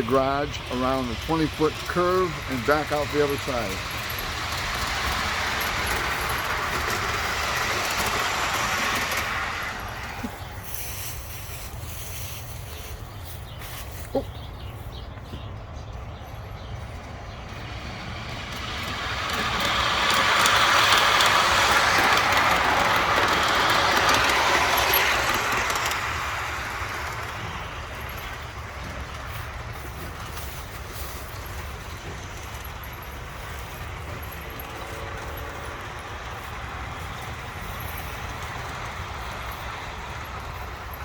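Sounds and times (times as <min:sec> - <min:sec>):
model train rattling on track: 0:00.0 - 0:13.6, 0:16.4 - 0:41.0.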